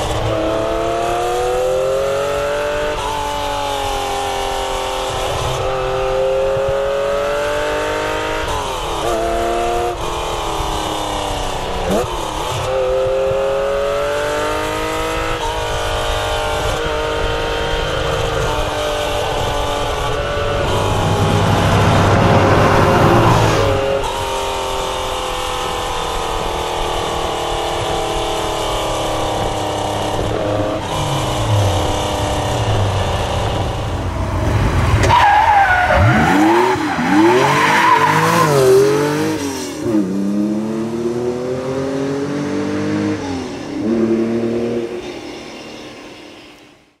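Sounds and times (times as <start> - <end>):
sports car engine revving: 0.0 - 45.0.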